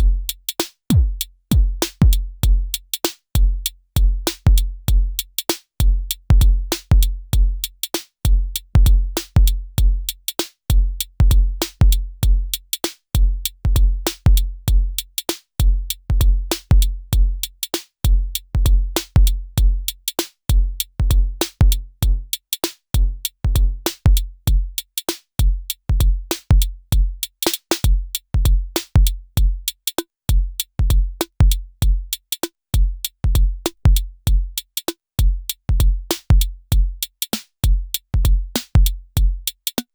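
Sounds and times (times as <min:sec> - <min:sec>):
synthesized kick drums: 0:00.0 - 0:22.4, 0:23.0 - 0:32.2, 0:32.8 - 0:39.9
hi-hat and percussion hits: 0:00.0 - 0:39.9.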